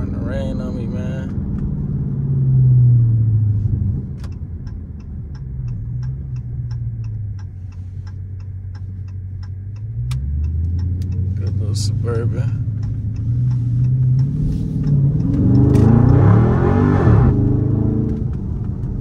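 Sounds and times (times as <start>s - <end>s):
car engine rumbling: 0.0s - 19.0s
turn signal ticking: 0.0s - 19.0s.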